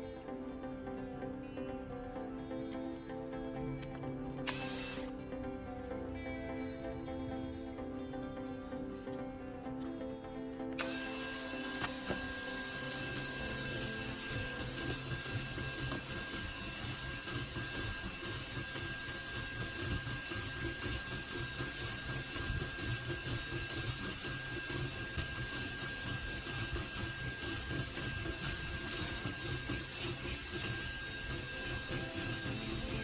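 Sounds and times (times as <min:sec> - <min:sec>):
fluttering mechanical buzz: 0:04.1 - 0:33.0.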